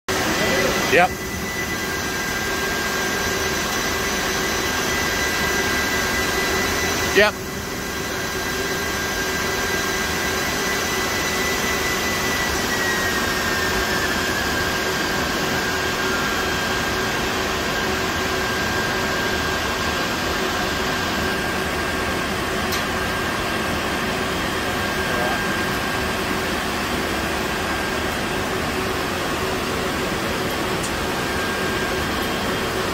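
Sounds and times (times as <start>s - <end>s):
fan whine: 0.1s - 32.9s
server cooling fans rushing: 0.1s - 32.9s.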